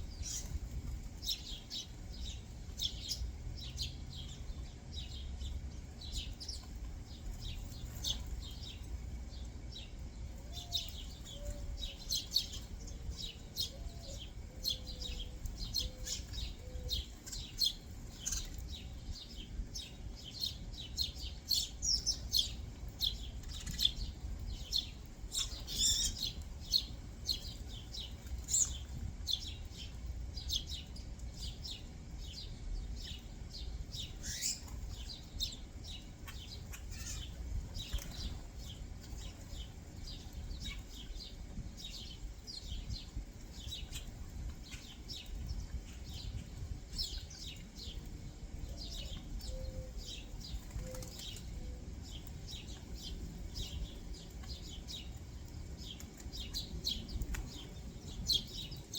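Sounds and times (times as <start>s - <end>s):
faint low outdoor rumble: 0.0s - 58.9s
songbirds chirping: 0.0s - 58.9s.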